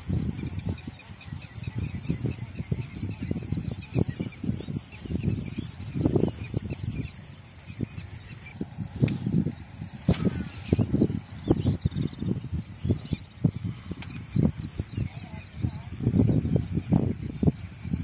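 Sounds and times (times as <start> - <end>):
high chirps of birds and insects: 0.0 - 18.0.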